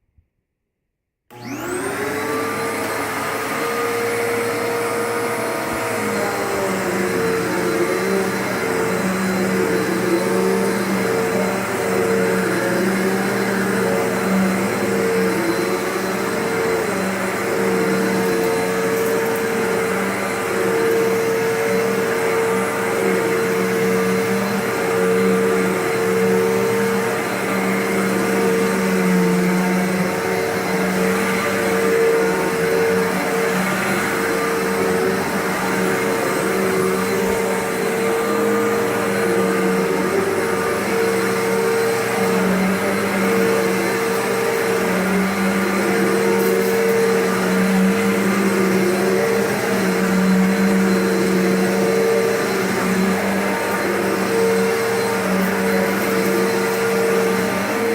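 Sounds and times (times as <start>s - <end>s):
vacuum cleaner running: 1.3s - 57.9s.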